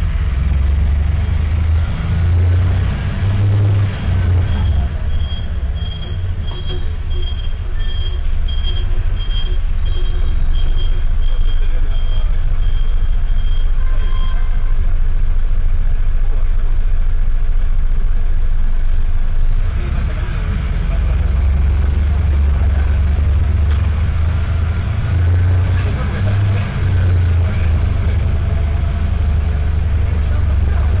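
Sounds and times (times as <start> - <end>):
bus diesel engine rumble: 0.0 - 31.0.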